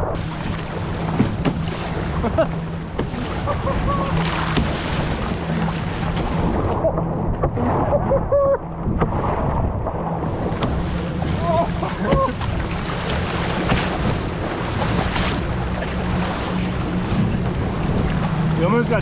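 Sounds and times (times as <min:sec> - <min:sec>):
rushing churning water: 0:00.0 - 0:19.0
water slapping around a canoe: 0:00.0 - 0:19.0.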